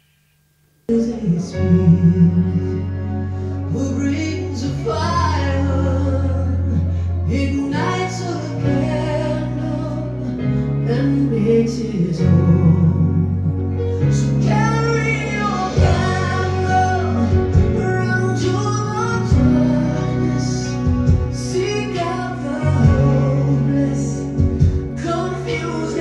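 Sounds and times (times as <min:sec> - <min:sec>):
instrumental backing with bass: 0:00.0 - 0:26.0.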